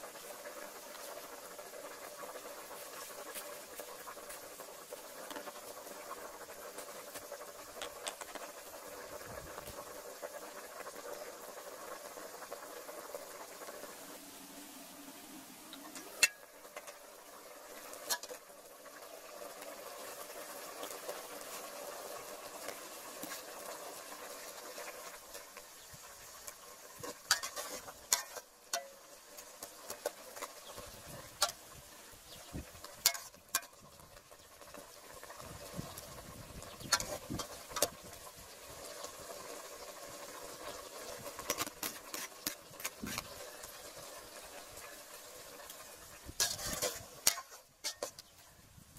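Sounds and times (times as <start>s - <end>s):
soup bubbling in pot: 0.0s - 48.9s.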